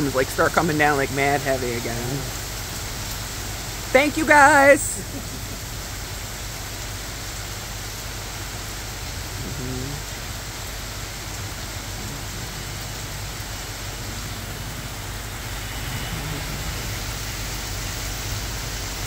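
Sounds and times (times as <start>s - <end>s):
heavy rain pouring: 0.0s - 19.0s
low engine hum: 0.0s - 19.0s.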